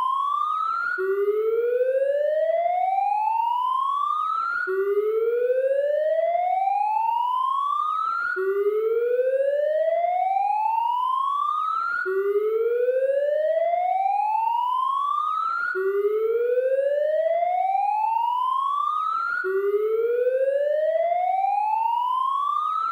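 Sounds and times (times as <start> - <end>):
police siren wailing: 0.0 - 22.9.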